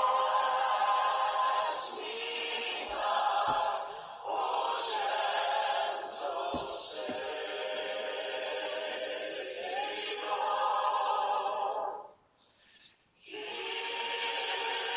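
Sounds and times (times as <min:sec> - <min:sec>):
choir singing: 0:00.0 - 0:12.1, 0:13.2 - 0:14.9.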